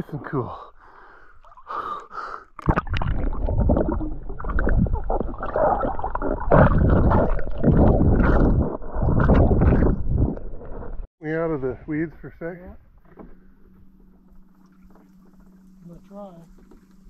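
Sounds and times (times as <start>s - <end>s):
muffled water gurgling and sloshing: 0.0s - 11.1s, 11.7s - 17.0s.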